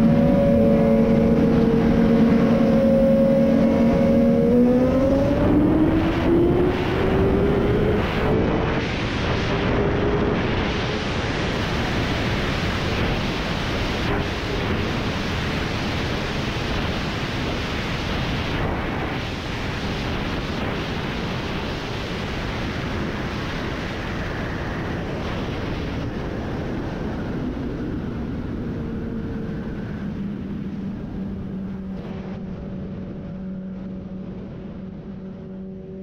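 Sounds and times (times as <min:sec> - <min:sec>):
wind roar on microphone: 0:00.0 - 0:36.0.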